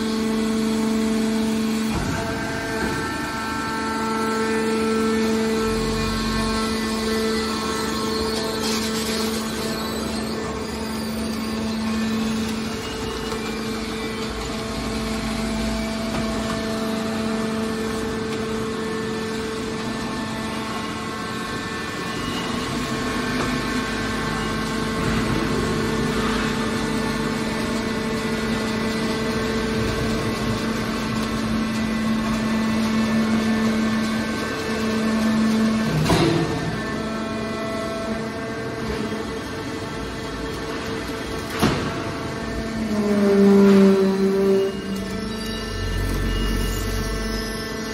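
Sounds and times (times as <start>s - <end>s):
hydraulic pump motor humming: 0.0s - 47.9s.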